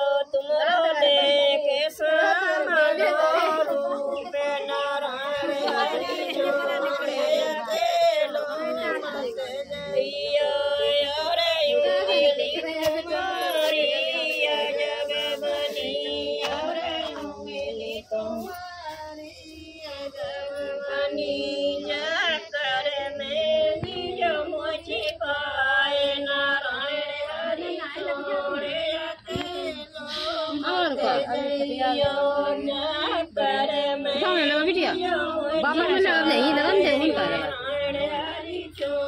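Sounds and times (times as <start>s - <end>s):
women singing unaccompanied: 0.0s - 39.0s.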